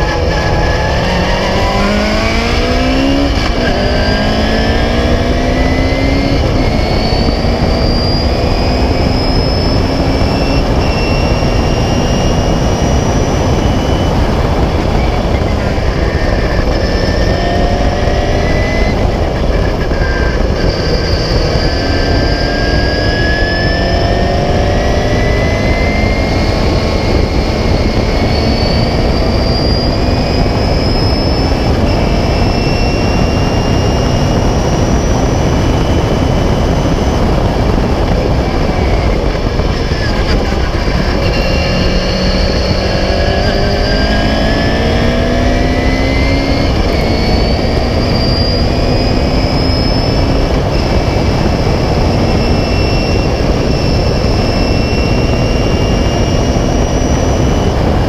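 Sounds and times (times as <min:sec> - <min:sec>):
race car engine running hard: 0:00.0 - 0:58.0
wind noise: 0:00.0 - 0:58.0.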